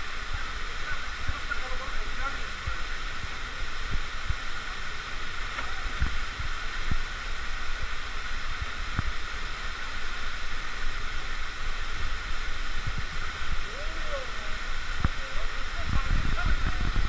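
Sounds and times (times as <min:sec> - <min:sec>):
waterfall pouring into rock pool: 0:00.0 - 0:17.0.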